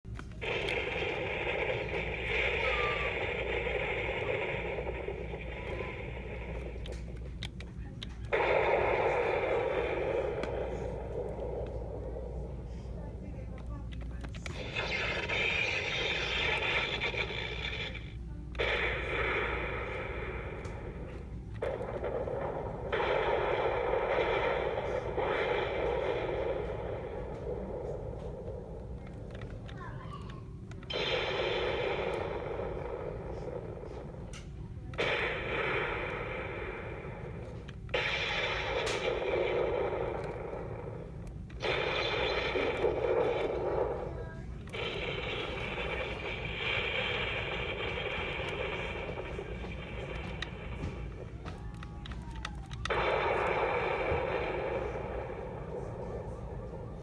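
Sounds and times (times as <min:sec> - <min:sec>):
toy thunder and crackle sound effect: 0:00.3 - 0:13.0, 0:14.0 - 0:57.0.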